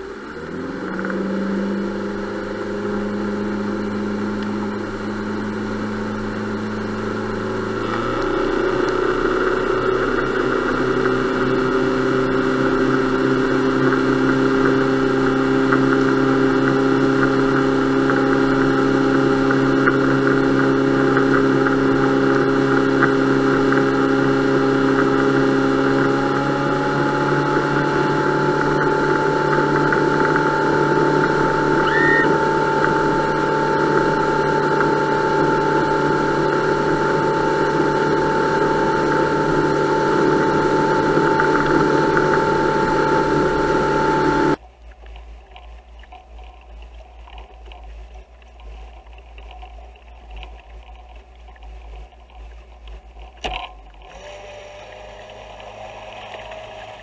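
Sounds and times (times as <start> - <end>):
hull and spray noise: 0.0 - 57.0
low wind rumble: 0.0 - 57.0
outboard engine whine: 0.0 - 57.0
water sounds: 0.0 - 57.0.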